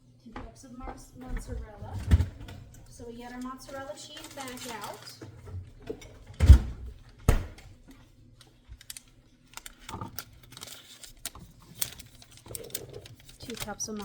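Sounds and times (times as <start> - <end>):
kitchen handling clicks and rustles: 0.4 - 14.0.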